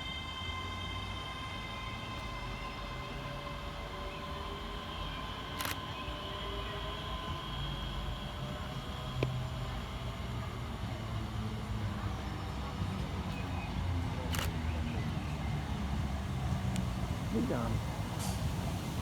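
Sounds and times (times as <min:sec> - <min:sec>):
electric train pulling away: 0:00.0 - 0:19.0.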